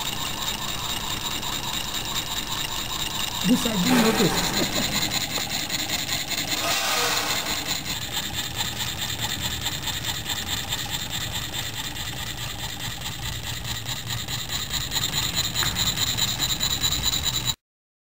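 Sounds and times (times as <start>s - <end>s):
stirling engine clattering: 0.0s - 17.1s.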